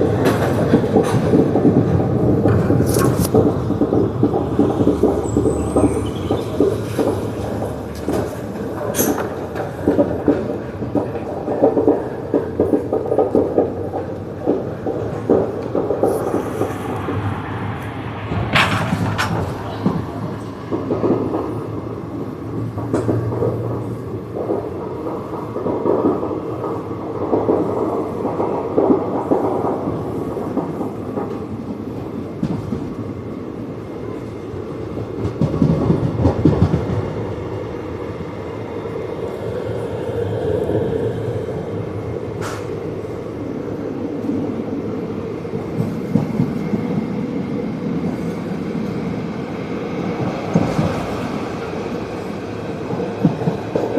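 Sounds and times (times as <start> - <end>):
train rumbling on rails: 0.0 - 53.9
wheels clattering over rail joints: 0.0 - 53.9.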